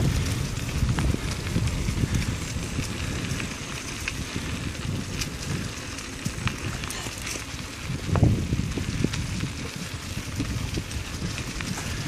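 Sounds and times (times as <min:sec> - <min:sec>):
bicycle tyres on gravel and leaves: 0:00.0 - 0:12.0
wind buffeting microphone: 0:00.0 - 0:12.0.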